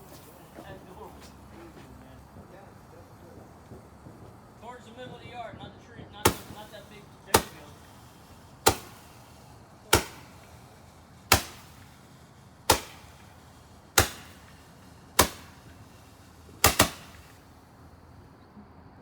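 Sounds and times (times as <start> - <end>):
fireworks shots firing: 0.1 - 18.2.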